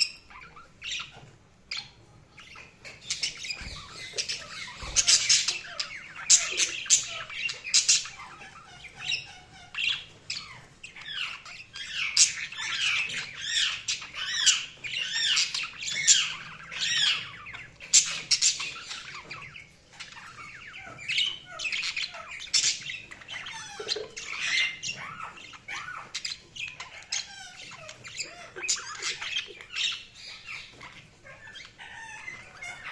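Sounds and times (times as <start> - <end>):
bird squawks: 0.0 - 32.9
budgerigars chattering: 0.0 - 32.9.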